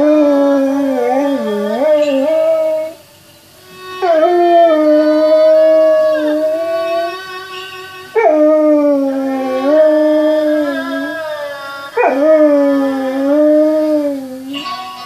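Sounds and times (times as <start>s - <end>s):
dog howling: 0.0s - 3.0s, 3.9s - 14.6s
music: 0.0s - 15.0s.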